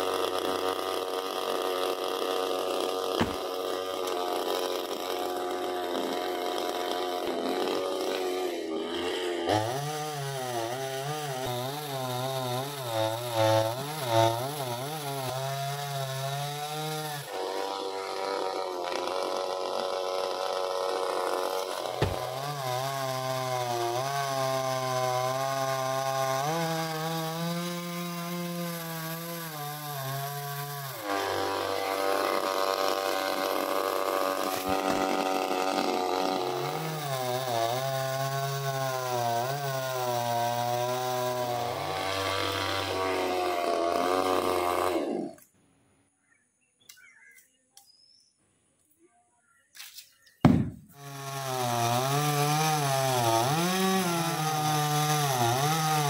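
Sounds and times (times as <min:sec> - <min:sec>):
chainsaw cutting wood: 0:00.0 - 0:45.5, 0:50.3 - 0:56.0.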